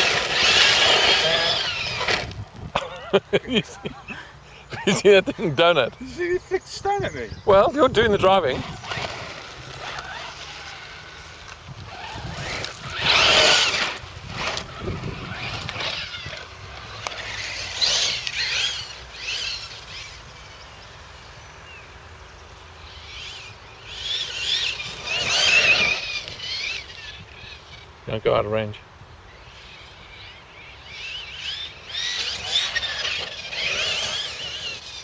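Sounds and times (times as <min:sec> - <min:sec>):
rc car motor and gear whine: 0:00.0 - 0:02.7, 0:04.9 - 0:35.0.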